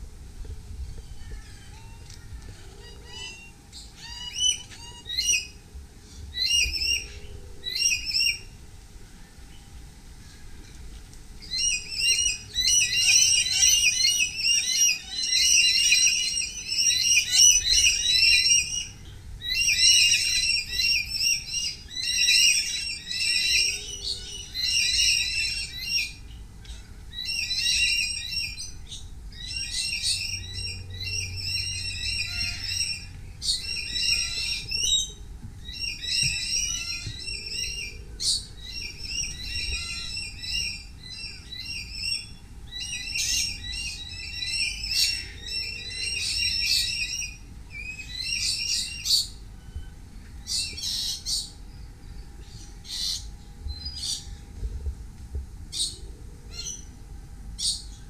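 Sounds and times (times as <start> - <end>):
birds chattering and calling: 0.0 - 58.0.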